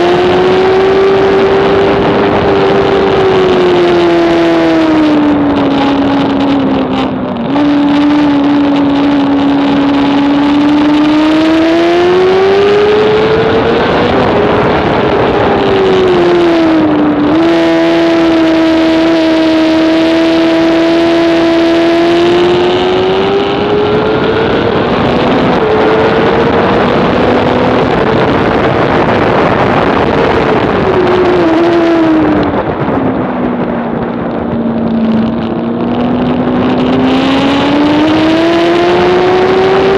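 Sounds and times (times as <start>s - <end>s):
motorcycle engine at racing revs: 0.0s - 39.9s
wind noise: 0.0s - 39.9s.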